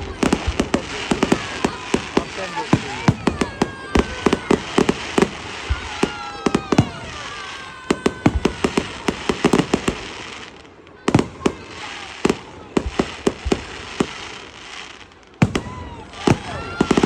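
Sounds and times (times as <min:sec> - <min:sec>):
falling firework whistles: 0:00.0 - 0:17.0
fireworks bangs: 0:00.0 - 0:17.0
fireworks crackling: 0:00.0 - 0:17.0.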